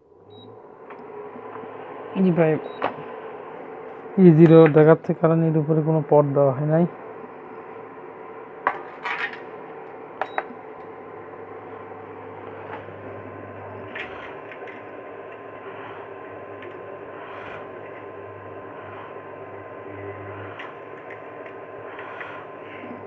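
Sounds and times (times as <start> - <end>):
induction cooker humming: 0.0 - 23.0.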